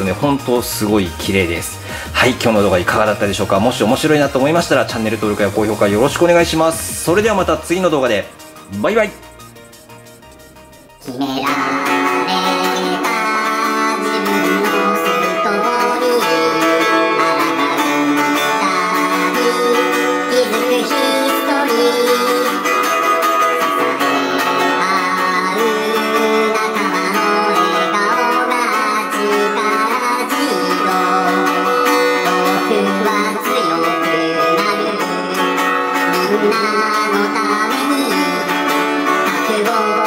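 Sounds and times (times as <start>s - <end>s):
guitar-led song: 0.0s - 40.0s.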